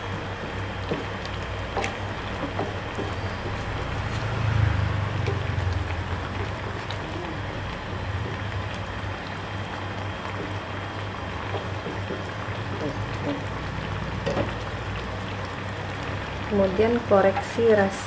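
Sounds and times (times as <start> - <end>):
broth simmering: 0.0 - 18.0
stove burner rumble: 0.0 - 18.0.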